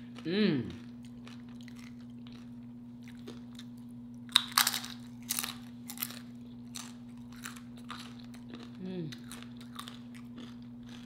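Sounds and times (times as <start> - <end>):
faint steady hum: 0.0 - 11.0
tortilla chip crunching: 0.7 - 11.0.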